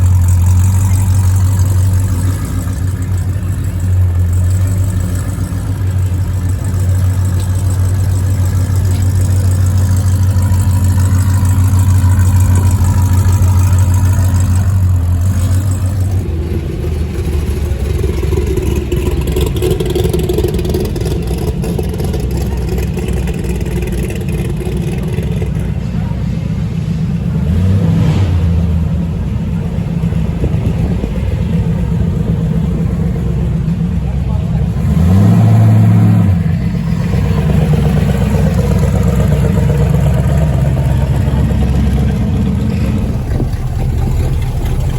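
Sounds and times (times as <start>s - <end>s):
car engines running: 0.0s - 44.9s.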